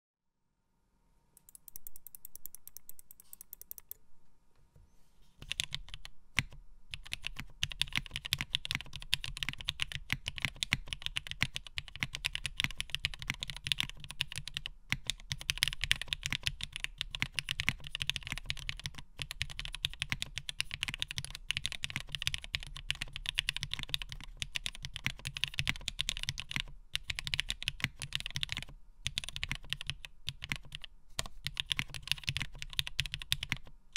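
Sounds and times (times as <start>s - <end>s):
mechanical keyboard typing: 1.4s - 4.0s, 5.4s - 33.7s.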